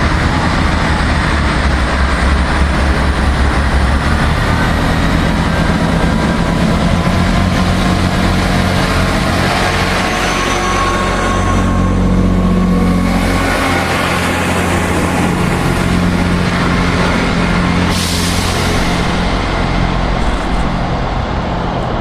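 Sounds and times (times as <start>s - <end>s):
train diesel engines running: 0.0s - 22.0s.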